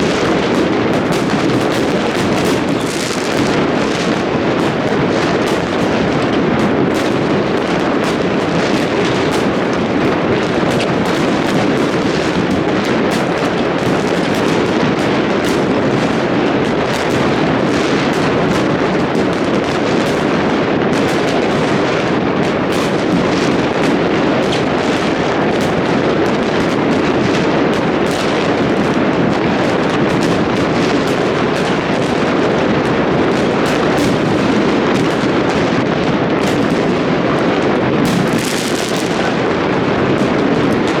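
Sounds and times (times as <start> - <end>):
fireworks barrage: 0.0 - 41.0.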